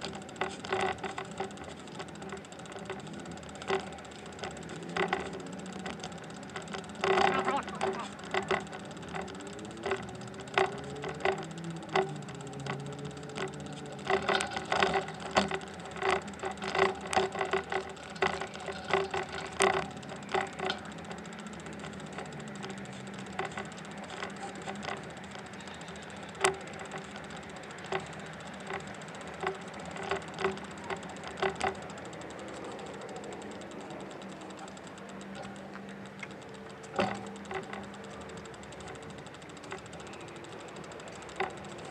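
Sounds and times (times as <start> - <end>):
steady background hum: 0.0 - 41.9.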